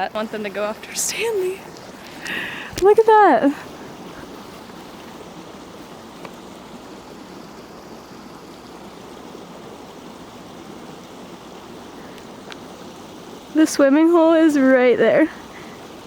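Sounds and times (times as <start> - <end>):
creek flowing: 0.0 - 16.0.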